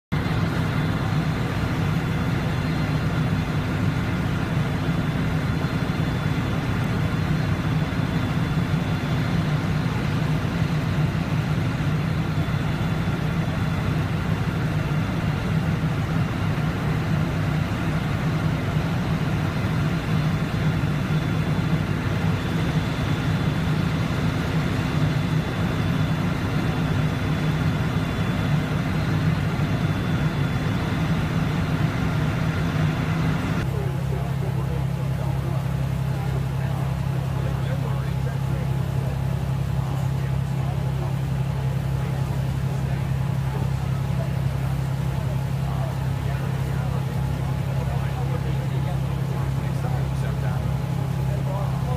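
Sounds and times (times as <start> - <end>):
heavy engine idling: 0.1 - 51.9.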